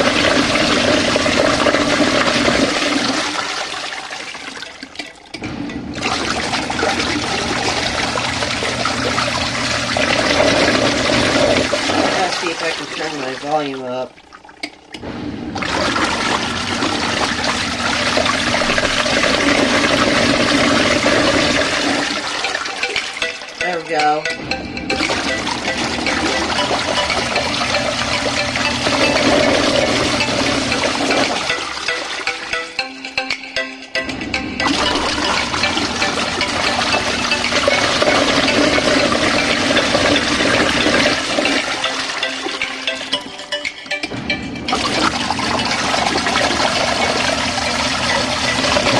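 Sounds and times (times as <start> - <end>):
water churning in washing machine: 0.0 - 32.6, 34.0 - 43.2, 44.0 - 48.9.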